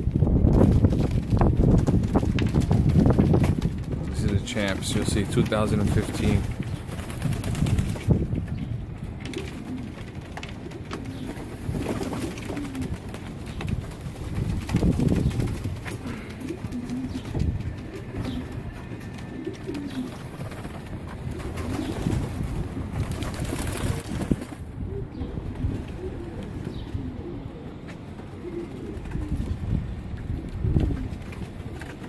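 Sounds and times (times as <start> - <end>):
pigeons cooing: 0.5 - 32.0.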